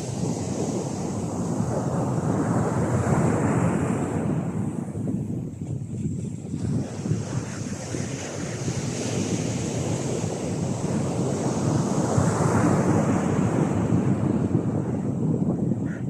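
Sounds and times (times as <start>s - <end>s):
sea waves breaking on beach: 0.0s - 4.8s, 6.1s - 15.4s.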